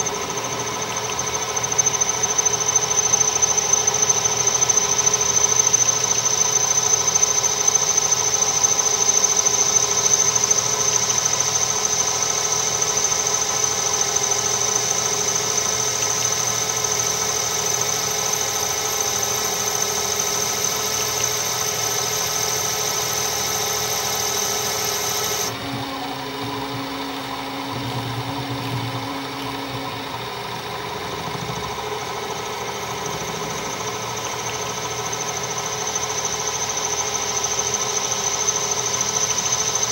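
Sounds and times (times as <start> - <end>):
high steady cutting whine: 0.0 - 39.9
metal lathe humming: 0.0 - 39.9.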